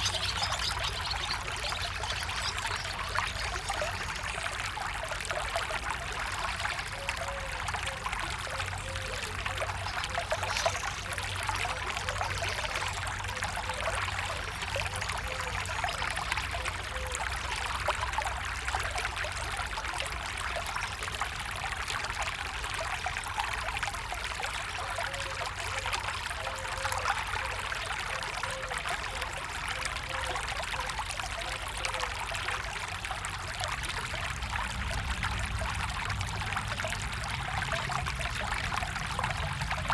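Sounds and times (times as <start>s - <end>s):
small stream rushing and gurgling: 0.0s - 39.9s.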